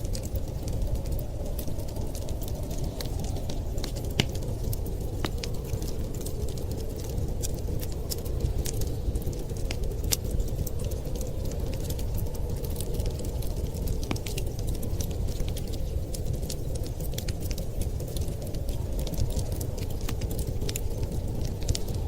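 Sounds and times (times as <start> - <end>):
low rumble of wind: 0.0 - 22.0
wood fire crackling and popping: 0.0 - 22.0.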